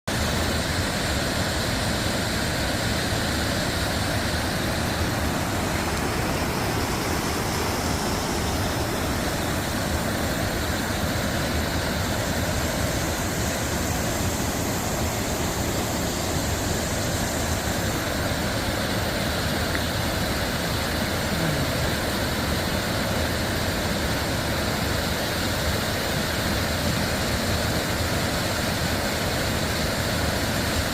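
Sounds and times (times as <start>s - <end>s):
stream rushing: 0.1s - 30.9s.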